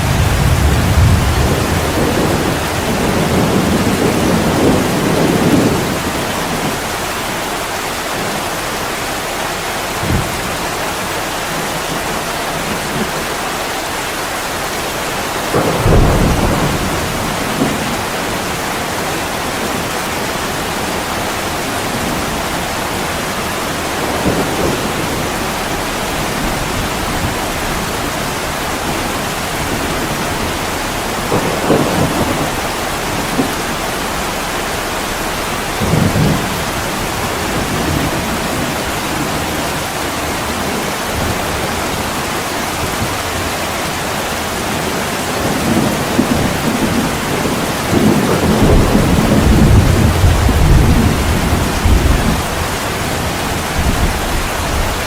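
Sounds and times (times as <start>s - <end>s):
heavy rain on a window: 0.0s - 55.0s
thunder rumbling: 0.0s - 55.0s.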